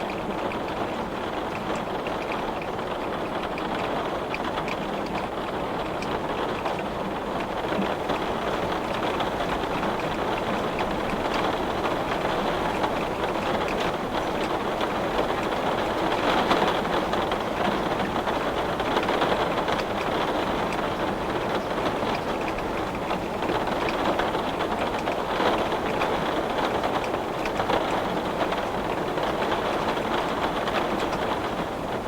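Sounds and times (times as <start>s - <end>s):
heavy rain on glass: 0.1s - 32.0s.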